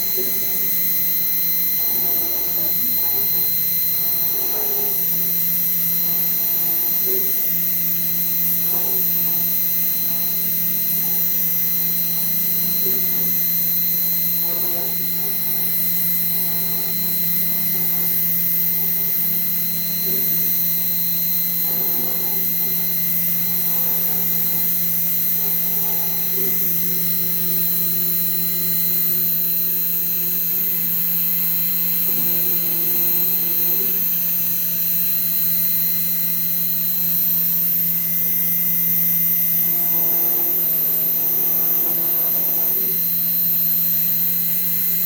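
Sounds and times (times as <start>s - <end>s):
cnc router hum and whine: 0.0s - 45.0s.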